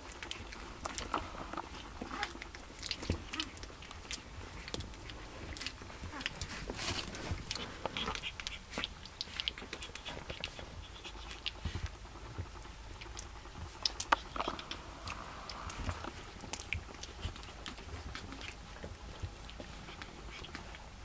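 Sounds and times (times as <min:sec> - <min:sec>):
puppies chewing and scrabbling: 0:00.0 - 0:21.0.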